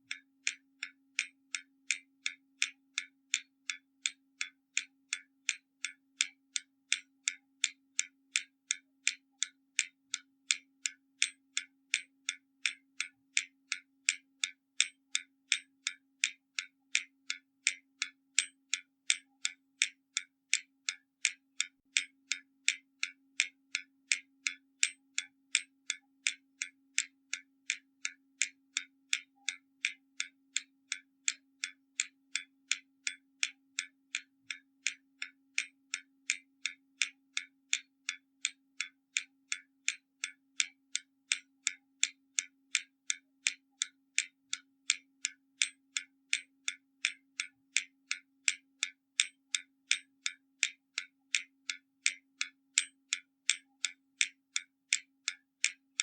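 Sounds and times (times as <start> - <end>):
mechanical clock ticking: 0.0 - 56.0.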